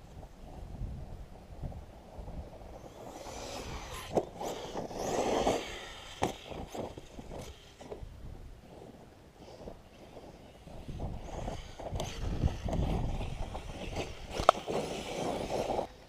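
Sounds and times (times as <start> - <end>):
rc truck driving on gravel: 0.0 - 16.0.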